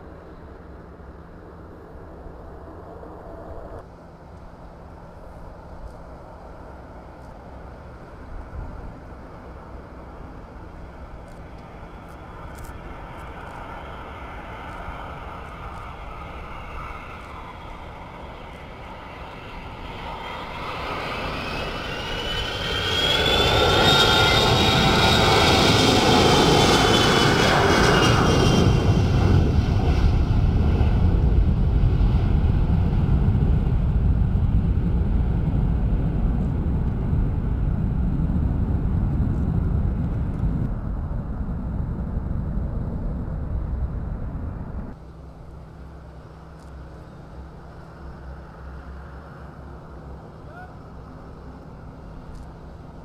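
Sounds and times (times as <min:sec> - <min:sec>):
high jet whine: 0:00.0 - 0:07.2, 0:09.2 - 0:46.2
jet engines taking off: 0:00.0 - 0:53.0.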